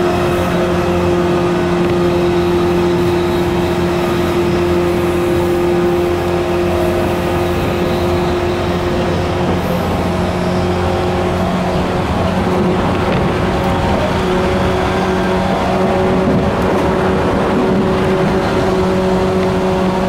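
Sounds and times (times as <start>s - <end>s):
electric train motors growling: 0.0s - 20.0s
wheels rumbling on rail: 0.0s - 20.0s.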